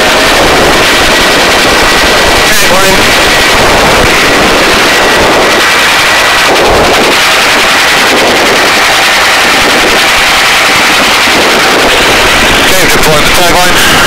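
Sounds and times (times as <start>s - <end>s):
helicopter rotor and turbine: 0.0s - 14.0s.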